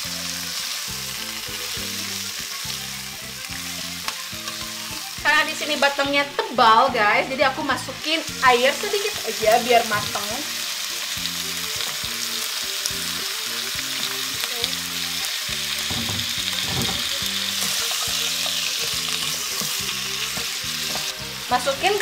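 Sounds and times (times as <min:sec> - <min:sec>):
vegetables sizzling in a wok: 0:00.0 - 0:22.0.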